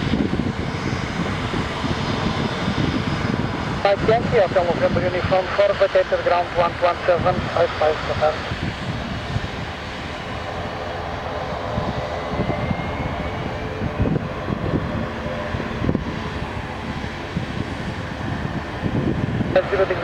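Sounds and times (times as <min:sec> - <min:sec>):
jet engines humming: 0:00.0 - 0:20.0.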